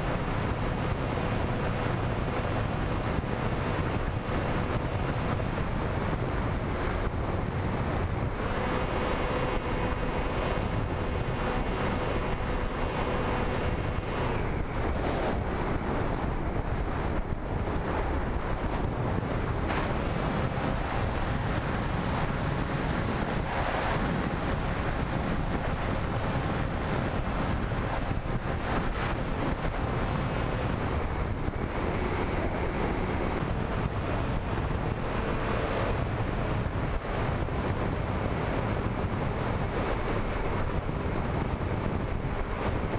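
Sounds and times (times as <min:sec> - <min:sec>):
faint motor and propeller whine: 0:00.0 - 0:42.9
wind rushing over microphone: 0:00.0 - 0:42.9.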